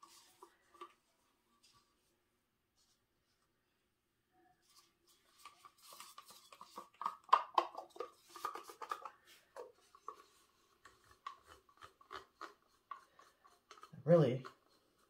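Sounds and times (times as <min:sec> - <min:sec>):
stick scraping plastic cups: 0:00.0 - 0:01.9, 0:04.6 - 0:15.0.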